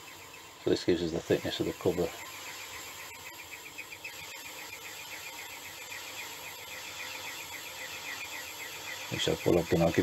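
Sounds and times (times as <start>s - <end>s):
lathe parting tool chirping: 0.0s - 10.0s
machine hum: 0.0s - 10.0s.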